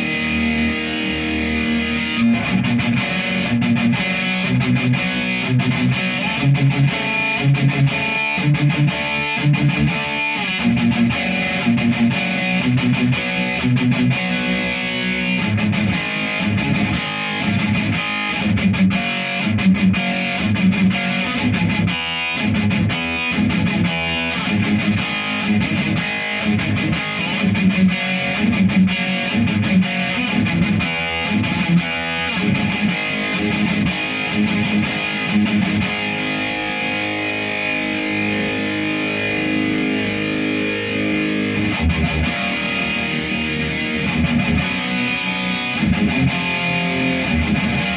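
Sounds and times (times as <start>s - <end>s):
distorted electric guitar riffs: 0.0s - 47.9s.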